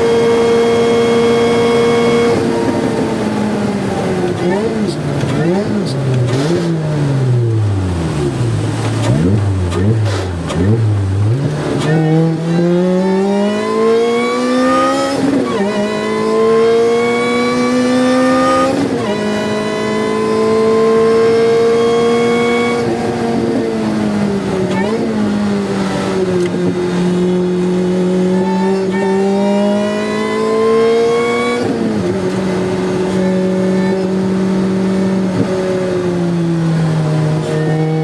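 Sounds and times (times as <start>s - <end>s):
car engine revving through gears: 0.0s - 38.0s.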